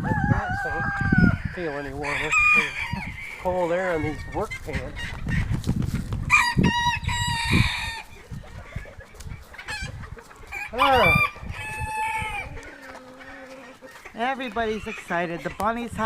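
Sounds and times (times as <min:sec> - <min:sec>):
chickens clucking and crowing: 0:00.0 - 0:16.0.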